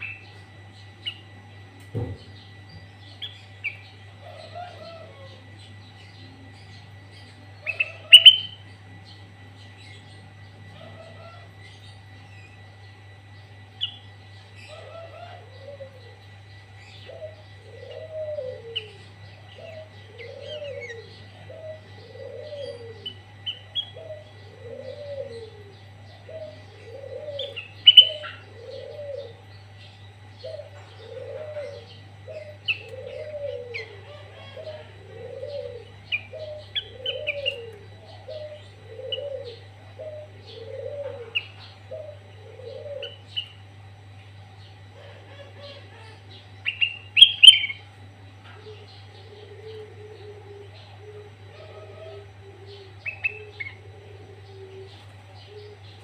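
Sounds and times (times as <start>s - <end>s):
birds chirping and whistling: 1.9s - 56.0s.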